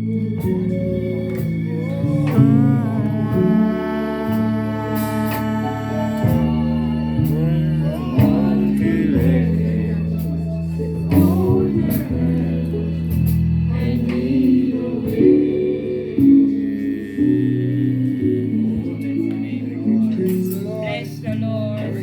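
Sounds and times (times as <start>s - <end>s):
gospel singing: 0.0s - 22.0s
guitar or keyboard accompaniment: 0.0s - 22.0s.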